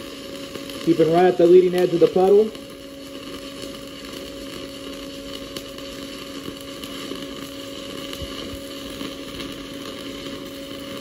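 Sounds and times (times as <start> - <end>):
welding arc crackling: 0.0 - 11.0.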